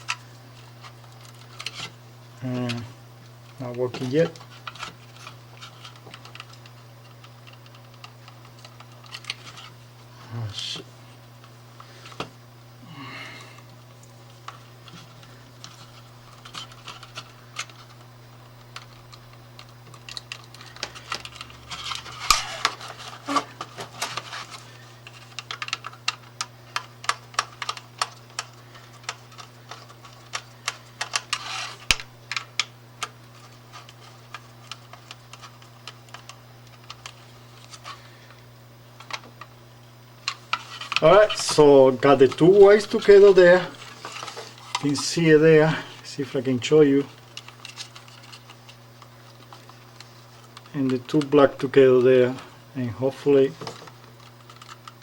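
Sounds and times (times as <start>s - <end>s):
clicks and rattles of wiring work: 0.0s - 9.8s, 13.6s - 55.0s
steady low hum: 0.0s - 55.0s.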